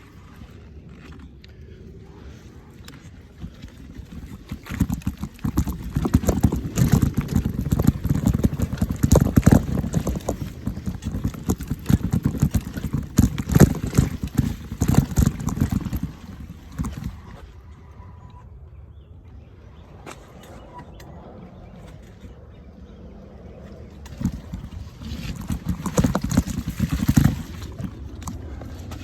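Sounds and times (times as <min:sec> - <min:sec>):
mountain bike rattling over rough ground: 0:00.0 - 0:18.4, 0:19.5 - 0:29.0.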